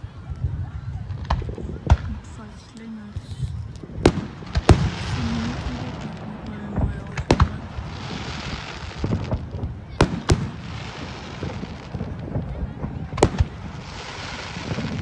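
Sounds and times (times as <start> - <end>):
fireworks bangs: 1.0 - 15.0
hissing crackle: 1.1 - 15.0.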